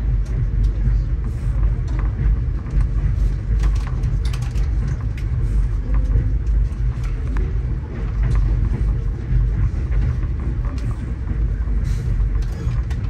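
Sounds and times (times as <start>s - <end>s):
train coach rumbling on track: 0.0s - 13.0s.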